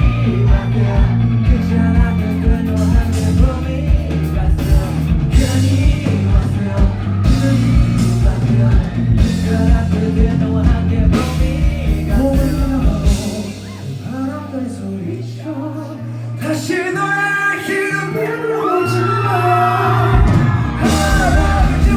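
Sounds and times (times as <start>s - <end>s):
rock band playing live: 0.0s - 15.5s, 16.6s - 21.9s
lead vocal singing: 0.0s - 21.9s.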